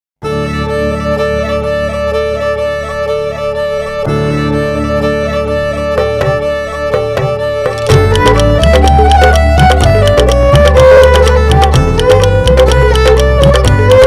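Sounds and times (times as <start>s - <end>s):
background music with held chords: 0.2s - 14.0s
short sharp notes: 0.2s - 14.0s.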